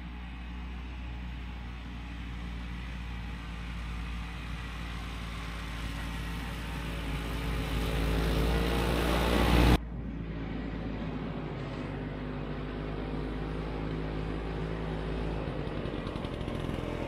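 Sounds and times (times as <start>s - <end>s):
snowmobile engine approaching: 0.0s - 17.0s.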